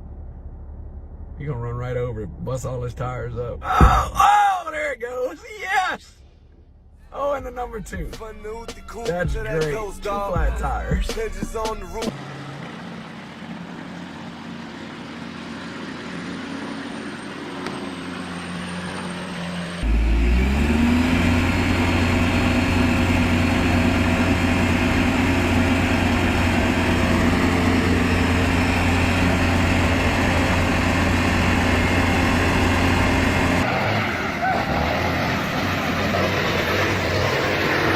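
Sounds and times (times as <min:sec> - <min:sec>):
vehicle engine droning: 0:00.0 - 0:37.9.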